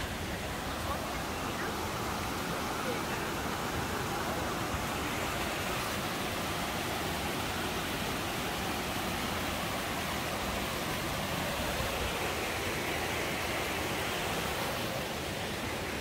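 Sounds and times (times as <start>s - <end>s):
water rushing over boulders: 0.0s - 16.0s.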